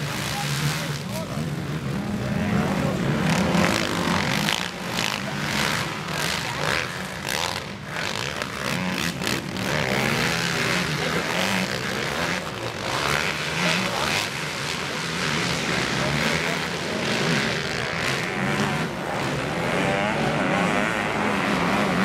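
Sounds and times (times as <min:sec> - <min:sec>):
quad bike engines revving: 0:00.0 - 0:22.0.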